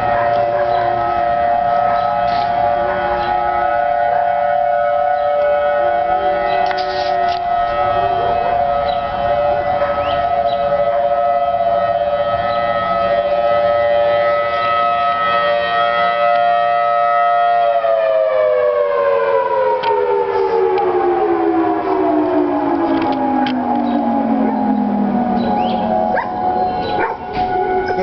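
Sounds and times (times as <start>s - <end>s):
tornado siren wailing: 0.0s - 28.0s.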